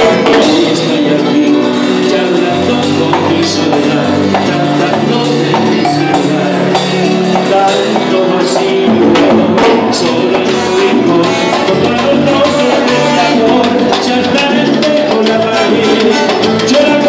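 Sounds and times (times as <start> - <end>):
drum kit and cymbals: 0.0 - 17.0
live latin band playing: 0.0 - 17.0.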